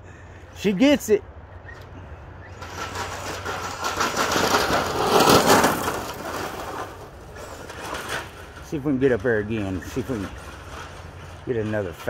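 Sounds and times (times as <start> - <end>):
rc truck motor: 1.5 - 12.0
tyres crunching gravel: 2.0 - 12.0.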